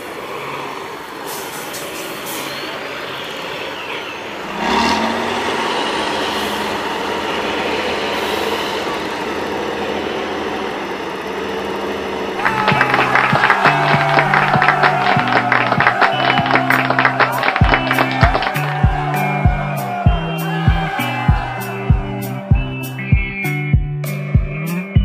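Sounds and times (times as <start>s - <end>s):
diesel truck engine revving: 0.0s - 25.0s.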